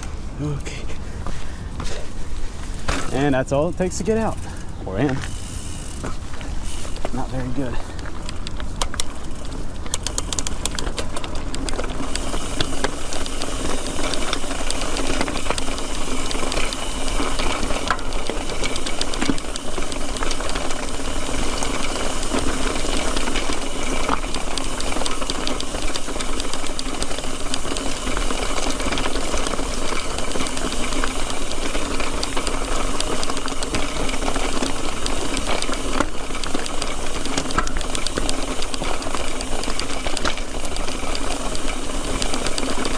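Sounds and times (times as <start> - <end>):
bike frame and chain rattling: 0.0 - 42.9.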